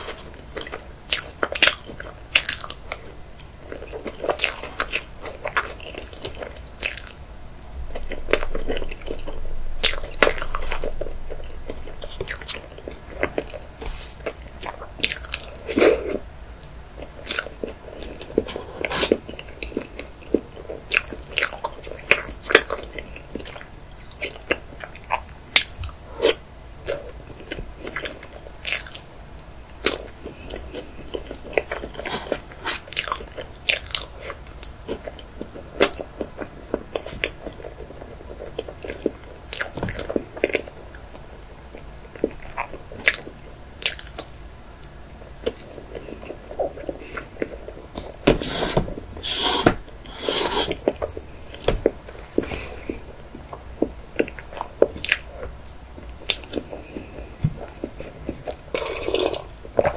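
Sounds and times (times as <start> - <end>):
chewing cake: 0.0 - 48.3, 49.9 - 59.9.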